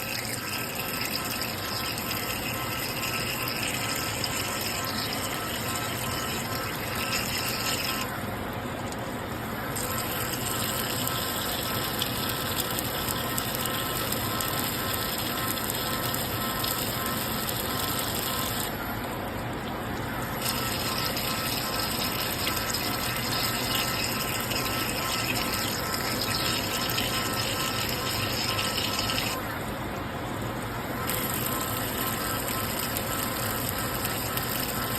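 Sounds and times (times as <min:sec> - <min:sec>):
pump running: 0:00.0 - 0:18.9, 0:19.7 - 0:29.8, 0:30.4 - 0:34.9
faint steady machine tones: 0:00.0 - 0:34.9.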